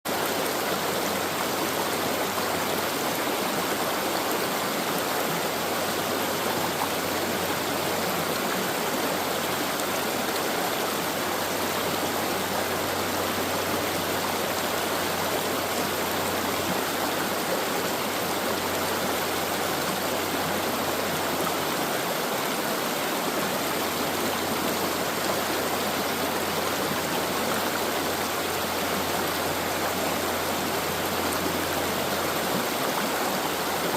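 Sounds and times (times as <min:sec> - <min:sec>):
stream water rushing over rocks: 0:00.1 - 0:33.9.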